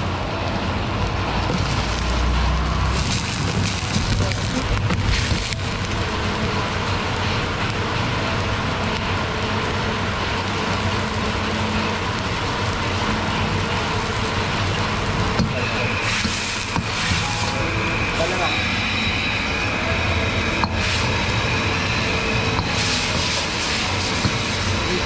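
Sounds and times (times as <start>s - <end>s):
gas burner roaring: 0.0s - 25.0s.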